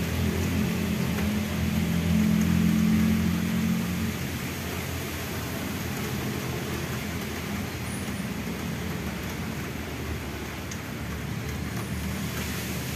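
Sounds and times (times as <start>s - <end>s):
rain falling: 0.0s - 12.9s.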